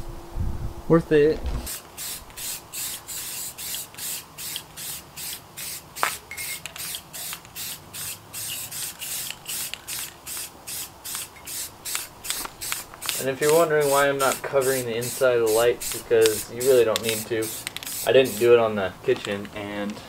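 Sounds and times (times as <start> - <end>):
spray can hissing bursts: 1.7 - 18.6.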